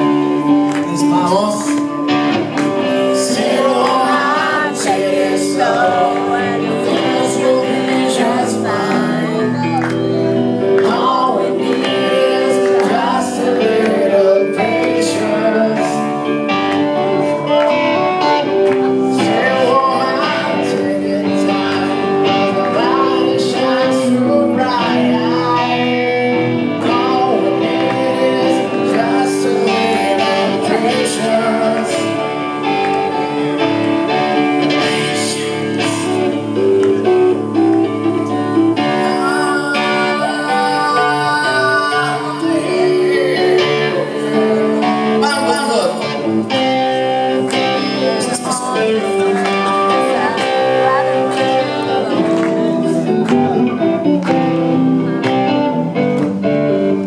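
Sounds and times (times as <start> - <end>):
person singing: 0.0 - 56.1
clean electric guitar: 0.0 - 57.0.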